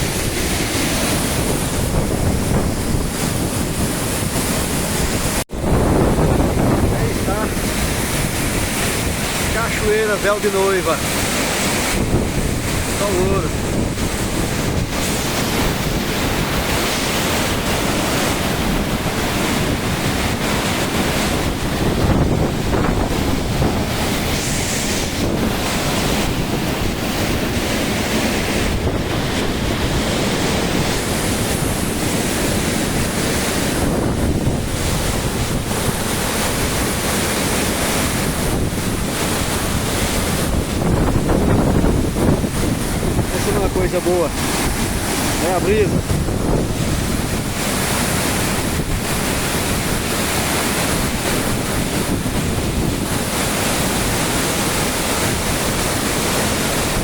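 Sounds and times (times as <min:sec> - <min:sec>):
waterfall rushing: 0:00.0 - 0:57.0
wind buffeting microphone: 0:00.0 - 0:57.0.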